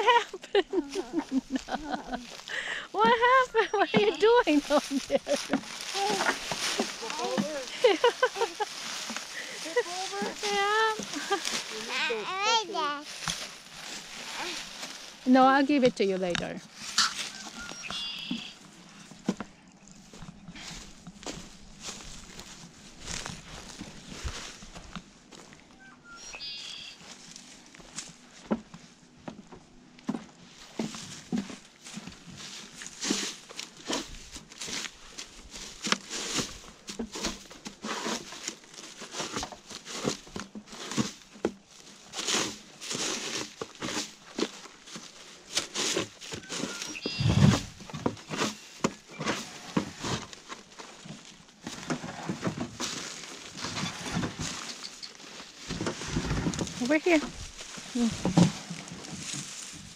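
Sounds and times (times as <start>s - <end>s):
footsteps on dry grass: 0.0s - 59.9s
dry stems rustling: 0.1s - 28.8s, 30.0s - 59.9s
footsteps on wooden boardwalk: 0.8s - 12.2s, 16.2s - 25.8s, 27.0s - 59.9s.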